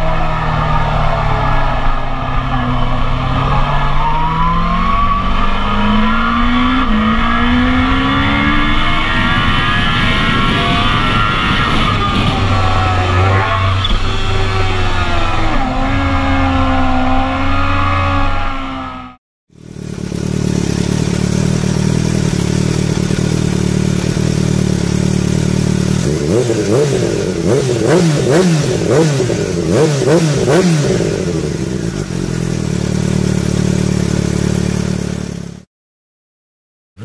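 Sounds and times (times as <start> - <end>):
motorcycle engine idling and revving: 0.0 - 35.7.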